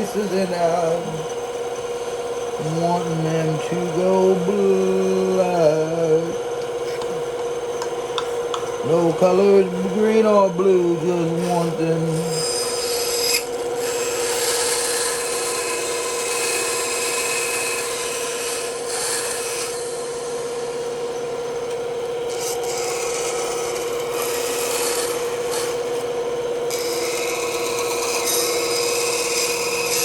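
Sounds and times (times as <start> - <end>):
bandsaw cutting wood: 0.0 - 7.4, 8.8 - 30.0.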